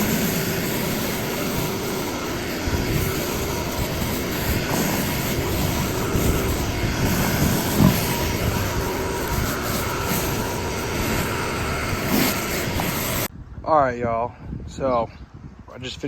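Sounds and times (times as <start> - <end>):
small gas engine running: 0.0 - 13.3.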